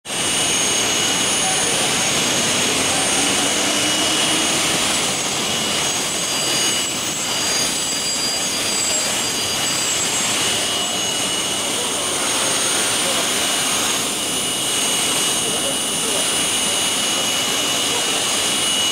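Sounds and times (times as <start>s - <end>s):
electric spindle whine: 0.1s - 18.9s.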